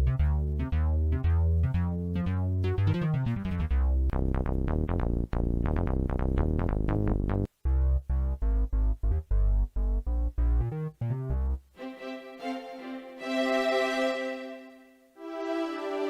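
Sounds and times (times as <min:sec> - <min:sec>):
synthesized keyboard music: 0:00.6 - 0:16.0.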